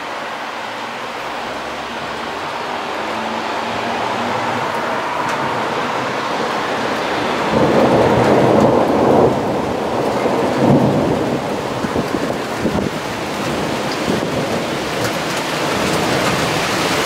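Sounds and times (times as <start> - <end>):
heavy rain: 0.0 - 17.0
thunder rumbling: 0.0 - 17.0.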